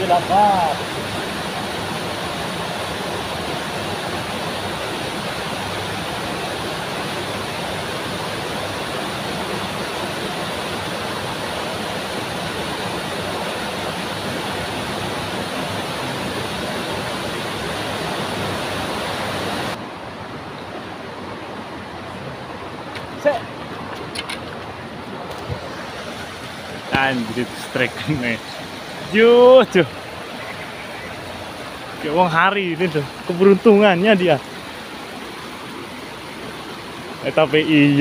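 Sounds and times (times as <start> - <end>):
stream rushing over concrete: 0.0 - 38.0.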